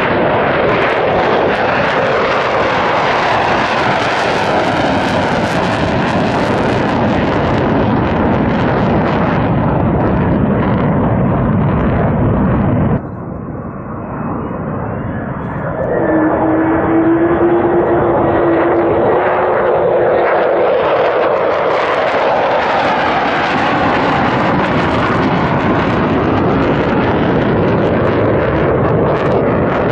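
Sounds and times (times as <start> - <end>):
jet engine rush: 0.0 - 29.9
steady droning tone: 5.9 - 29.9.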